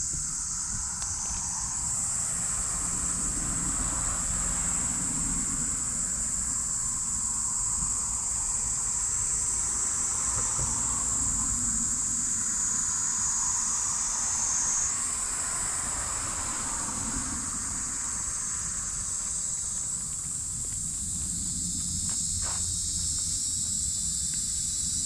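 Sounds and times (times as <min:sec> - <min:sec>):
insect chorus buzzing: 0:00.0 - 0:25.0.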